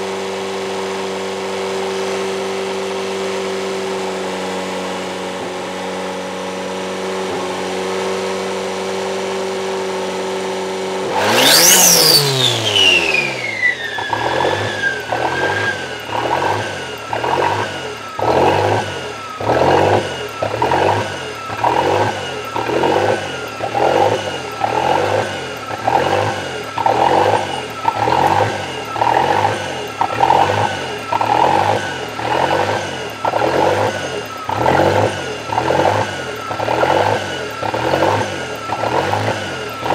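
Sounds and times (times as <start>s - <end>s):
car engine rough idling: 0.0s - 39.9s
engine revving with whine: 0.0s - 39.9s.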